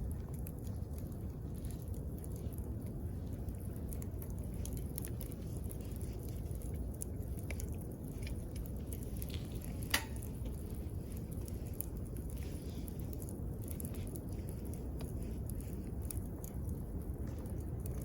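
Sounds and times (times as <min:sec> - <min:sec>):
campfire crackling and popping: 0:00.0 - 0:18.0
sharp fire crack: 0:00.0 - 0:18.0.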